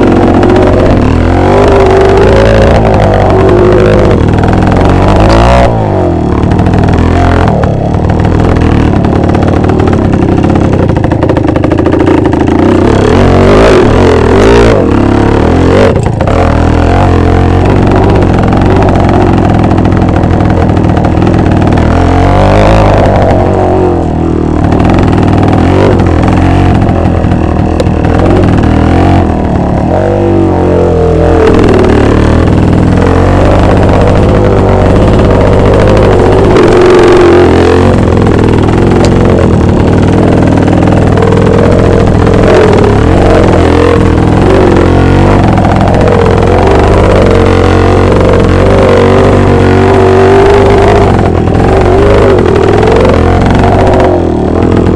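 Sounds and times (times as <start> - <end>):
two-stroke motorcycle revving: 0.0 - 54.9.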